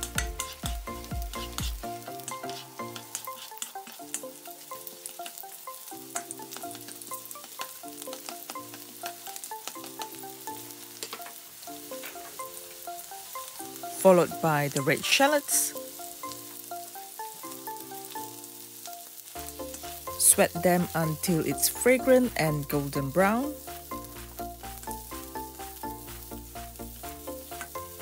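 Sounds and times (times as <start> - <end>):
spatula stirring in wok: 0.0 - 18.4, 19.0 - 28.0
garlic sizzling in hot oil: 0.0 - 28.0
soft background music: 0.0 - 28.0.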